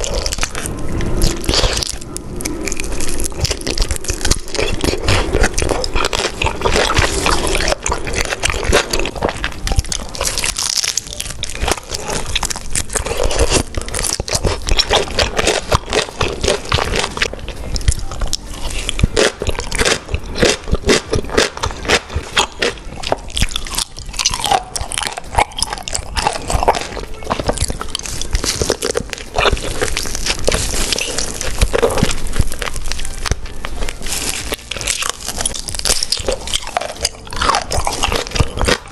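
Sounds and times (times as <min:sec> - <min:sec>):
close-miked biting and chewing: 0:00.0 - 0:38.9.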